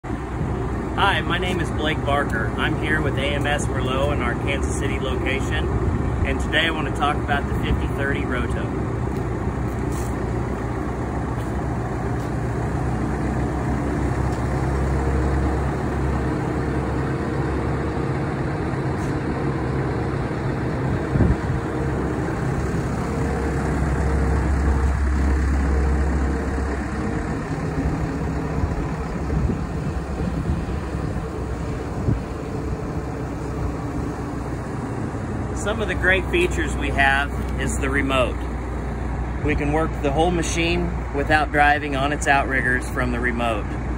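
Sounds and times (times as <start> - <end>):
telehandler engine running: 0.0 - 43.9.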